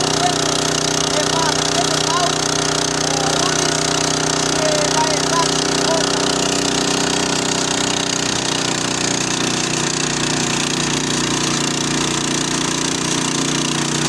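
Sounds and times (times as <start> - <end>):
small petrol engine running: 0.0 - 14.0.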